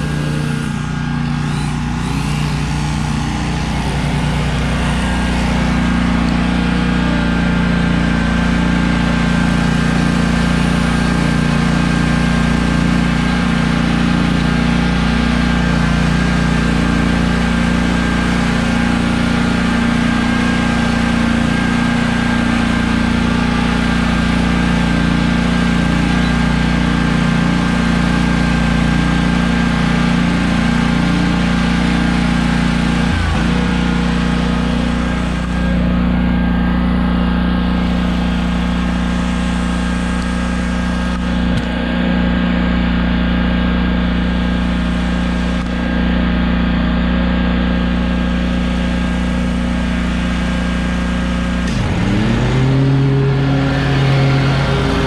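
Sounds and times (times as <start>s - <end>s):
mower engine running: 0.0s - 55.0s.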